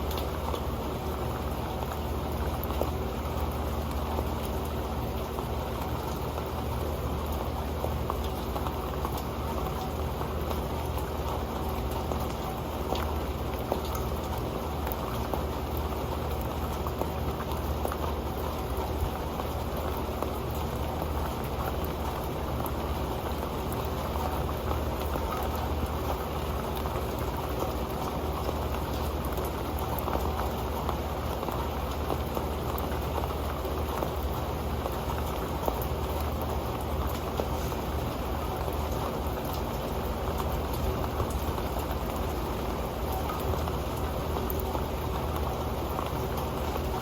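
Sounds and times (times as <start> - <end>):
rain drops ticking on a pan: 0.0 - 47.0
rain hiss: 0.0 - 47.0.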